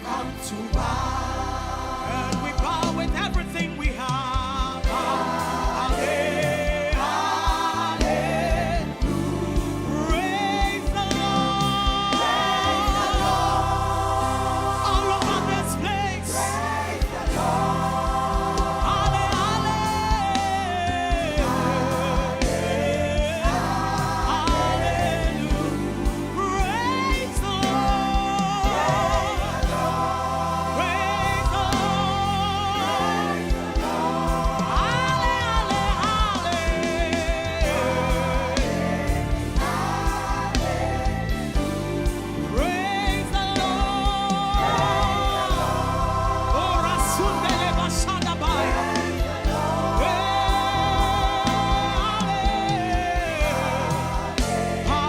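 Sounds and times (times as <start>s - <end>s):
band playing: 0.0s - 55.0s
voices singing gospel music: 0.0s - 55.0s.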